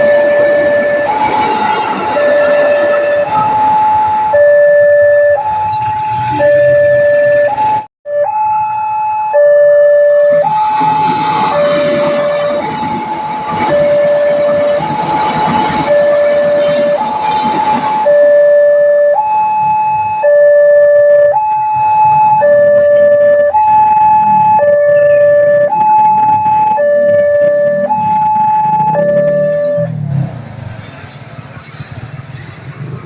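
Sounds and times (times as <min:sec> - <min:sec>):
passing train rumble: 0:00.0 - 0:07.9, 0:10.2 - 0:20.0, 0:24.2 - 0:33.0
level-crossing two-tone alarm: 0:00.0 - 0:30.0.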